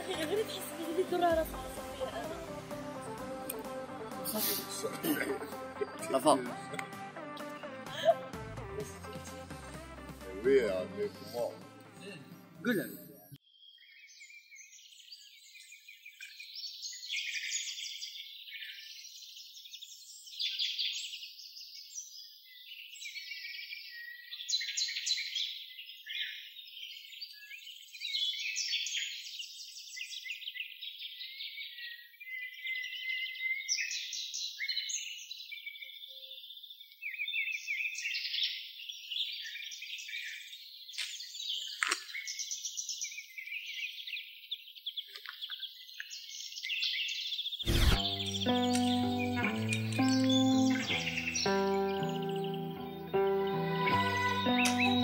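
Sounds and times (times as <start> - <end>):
songbirds chirping: 8.8 - 55.0.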